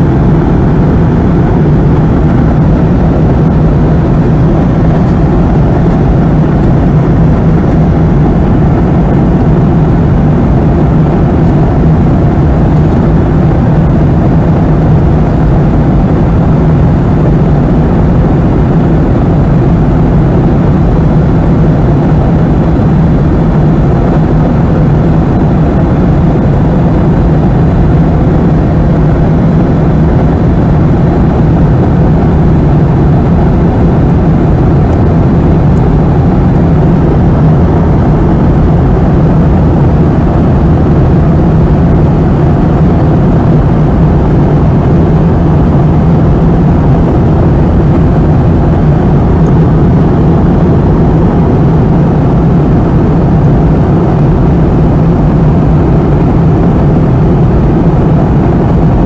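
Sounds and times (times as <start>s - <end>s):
air rushing along fuselage: 0.0s - 59.0s
jet engine drone: 0.0s - 59.0s.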